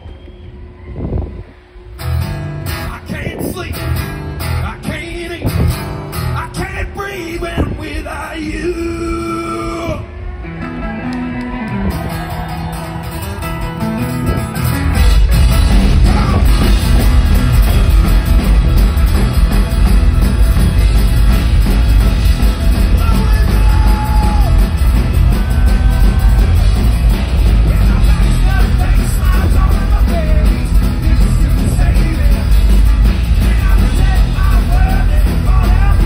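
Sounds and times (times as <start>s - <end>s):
live band playing: 2.0s - 7.7s, 10.5s - 36.0s.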